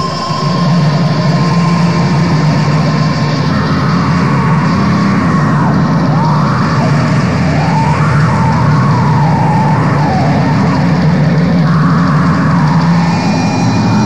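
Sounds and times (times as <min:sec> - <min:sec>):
distorted guitars: 0:00.0 - 0:14.0.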